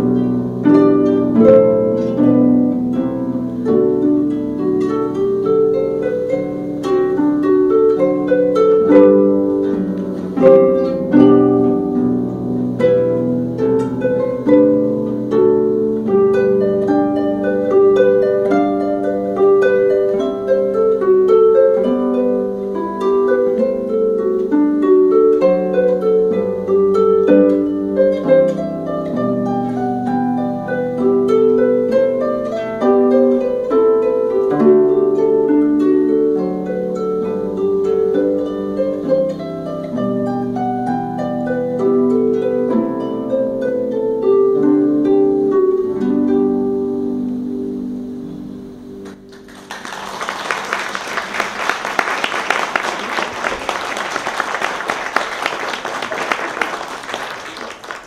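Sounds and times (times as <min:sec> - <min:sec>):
harp playing solo: 0:00.0 - 0:58.0.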